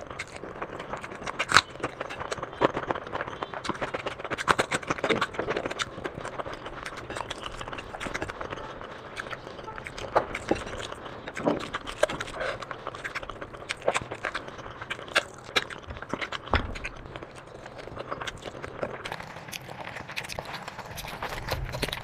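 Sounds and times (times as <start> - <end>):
chewing with wet smacks: 0.0 - 22.0.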